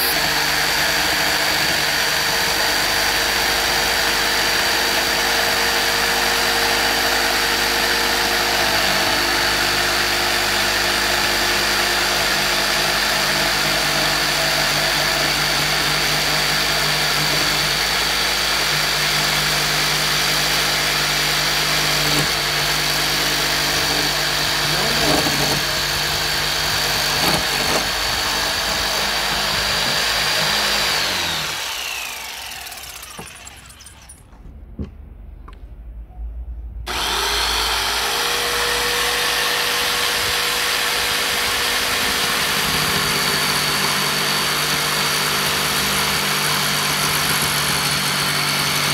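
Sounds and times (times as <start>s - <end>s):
jigsaw cutting wood: 0.0s - 34.2s, 36.9s - 48.9s.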